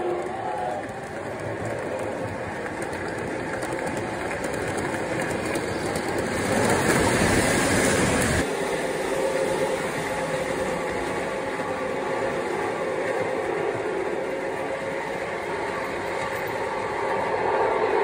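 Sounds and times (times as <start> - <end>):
model locomotive rumble: 0.0 - 18.0
model train cars rolling on track: 0.0 - 18.0.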